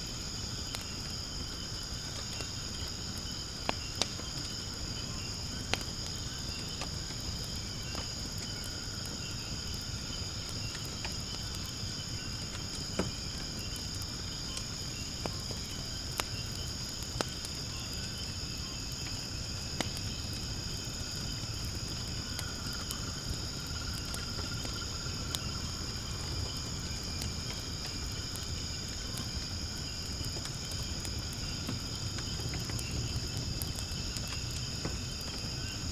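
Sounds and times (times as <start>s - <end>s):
firewood crackling and popping: 0.0s - 35.9s
insects chirring: 0.0s - 35.9s.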